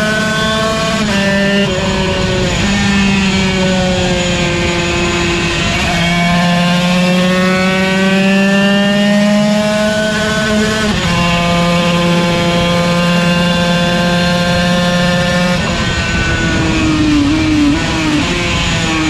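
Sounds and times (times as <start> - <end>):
two-stroke race engine revving: 0.0 - 19.0.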